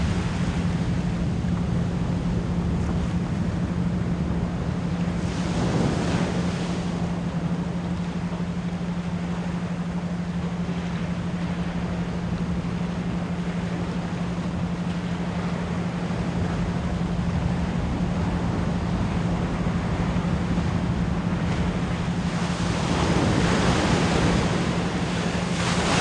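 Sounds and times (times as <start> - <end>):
ocean waves rushing: 0.0 - 26.0.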